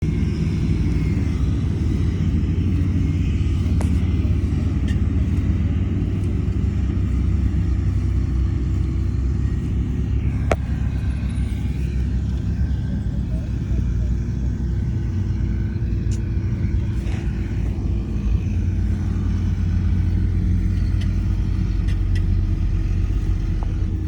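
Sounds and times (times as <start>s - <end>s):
diesel machinery rumbling: 0.0s - 24.0s.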